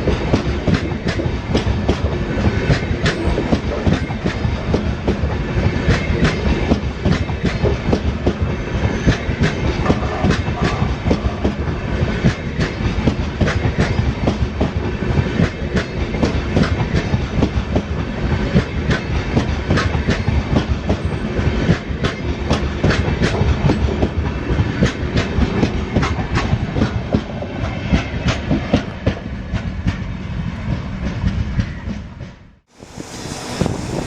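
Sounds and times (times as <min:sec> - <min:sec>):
train rolling rumble: 0:00.0 - 0:34.0
train wheels clattering over rail joints: 0:00.0 - 0:34.0.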